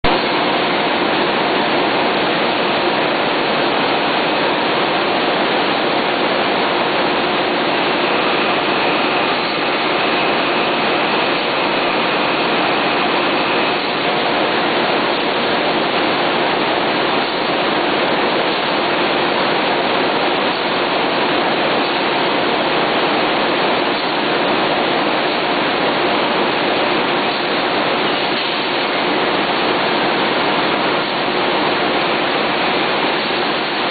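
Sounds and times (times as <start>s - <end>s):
printing press running: 0.0s - 33.9s.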